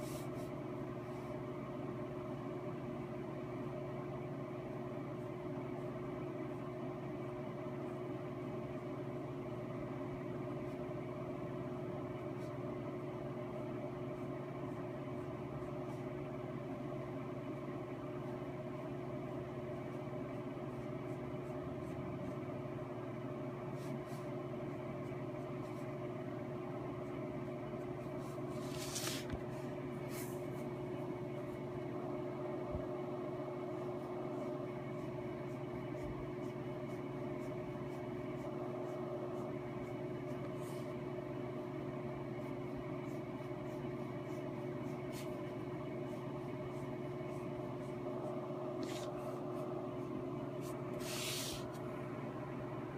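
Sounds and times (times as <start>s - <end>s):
machine hum with held tones: 0.0s - 52.9s.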